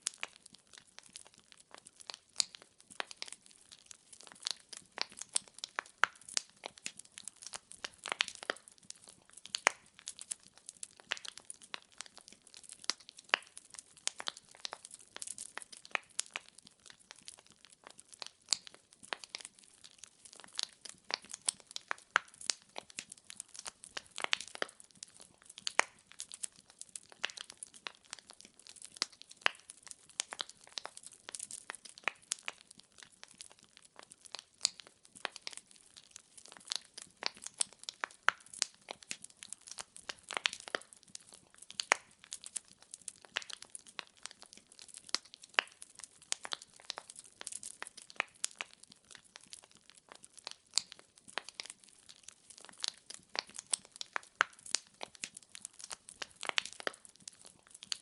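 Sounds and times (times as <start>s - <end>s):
fire pops: 0.0s - 58.0s
wood fire crackling: 0.0s - 58.0s.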